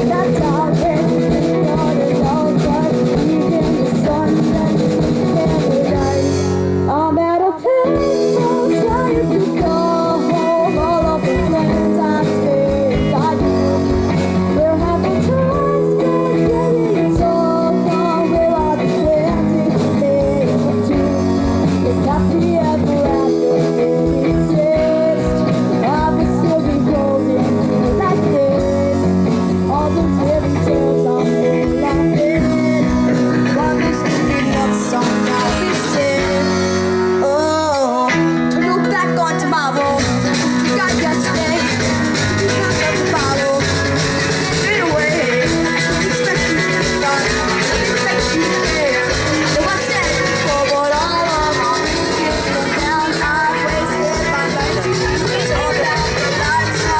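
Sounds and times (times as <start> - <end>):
live rock band playing: 0.0 - 56.9.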